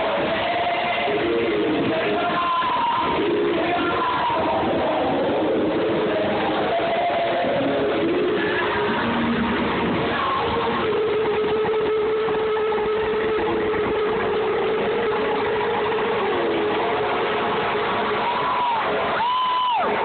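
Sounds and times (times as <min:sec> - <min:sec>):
amplified live band music: 0:00.0 - 0:20.0.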